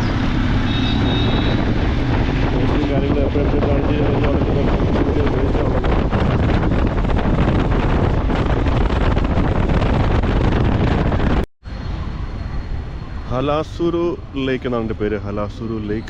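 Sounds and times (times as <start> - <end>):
wind rumble on microphone: 0.0 - 13.3
vehicle noise: 0.0 - 16.0.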